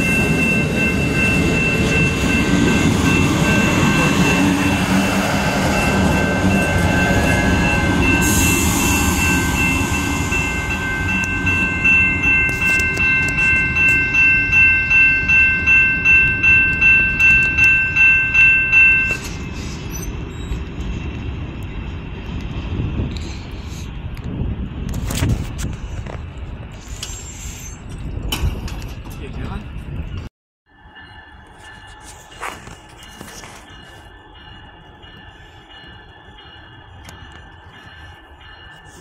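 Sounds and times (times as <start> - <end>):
crossing warning bells ringing: 0.0 - 23.2, 26.3 - 39.0
train wheel and rail rumble: 0.0 - 39.0.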